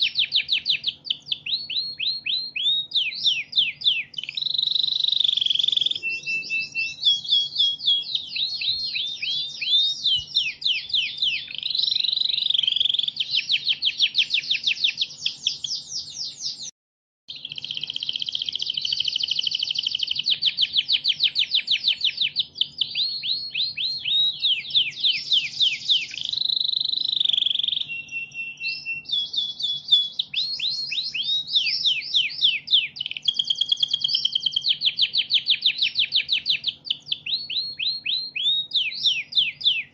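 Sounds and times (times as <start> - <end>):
canary singing trills: 0.0 - 16.7, 17.3 - 39.9.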